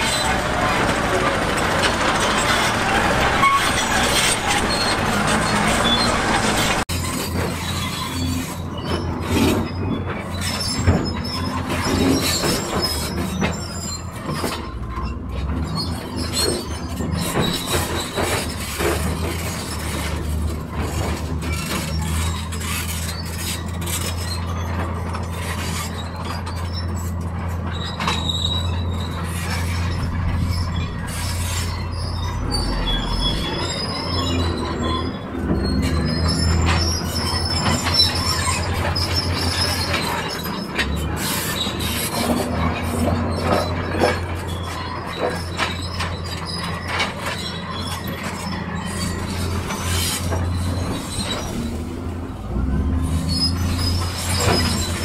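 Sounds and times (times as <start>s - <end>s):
excavator diesel engine drone: 0.0s - 55.0s
metallic squeals and clanks: 0.0s - 55.0s.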